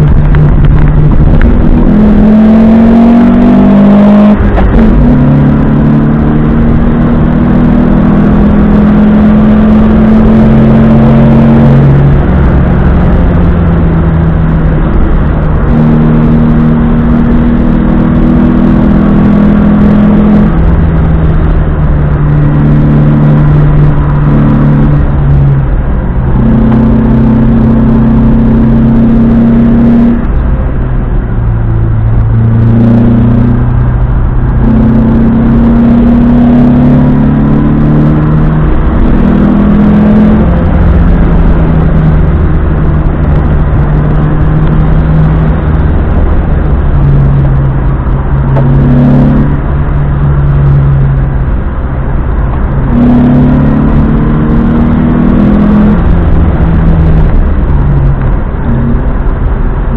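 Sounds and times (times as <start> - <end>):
car engine running hard: 0.0 - 59.9.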